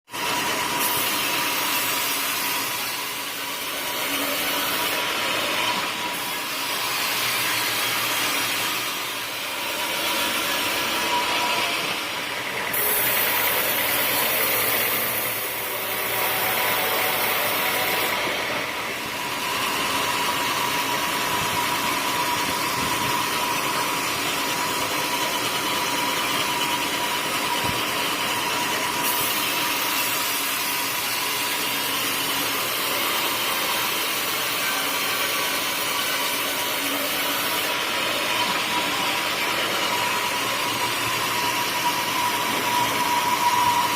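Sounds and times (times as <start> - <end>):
sawmill machine drone: 0.1 - 43.9
saw cutting wood hiss: 0.2 - 43.9.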